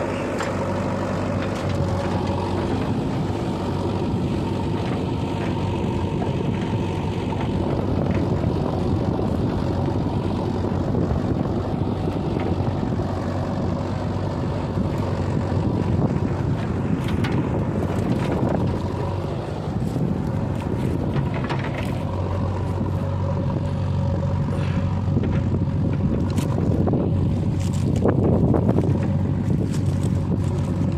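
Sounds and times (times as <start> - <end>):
earthmoving machine diesel engines: 0.0 - 30.9.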